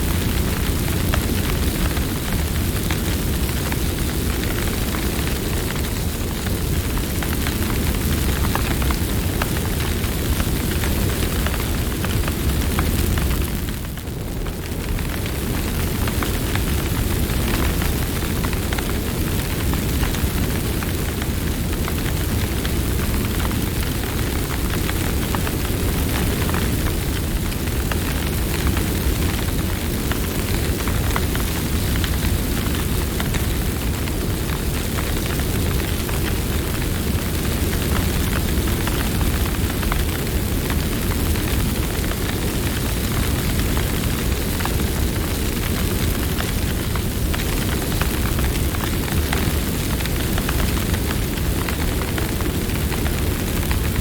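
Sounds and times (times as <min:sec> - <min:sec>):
campfire flame rumble: 0:00.0 - 0:54.0
fire crackles and pops: 0:00.0 - 0:54.0.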